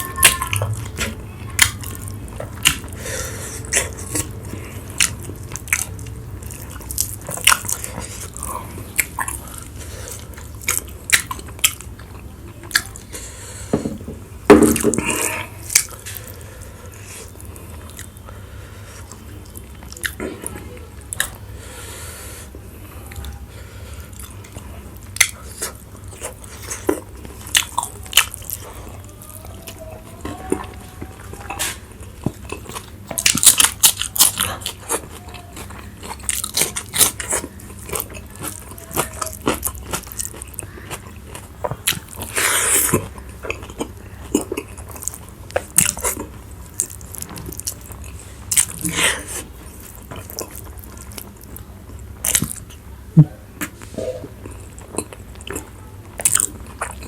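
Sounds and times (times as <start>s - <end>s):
crunchy chewing: 0.0s - 13.8s, 24.0s - 52.8s, 53.6s - 57.0s.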